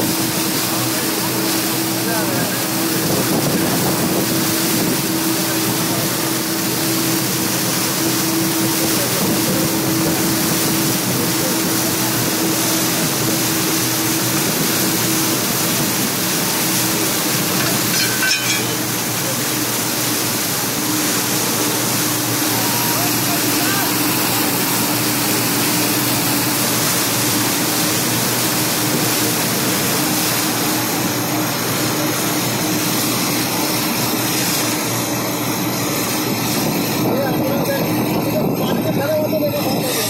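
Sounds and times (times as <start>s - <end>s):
floodwater rushing and churning: 0.0s - 40.0s.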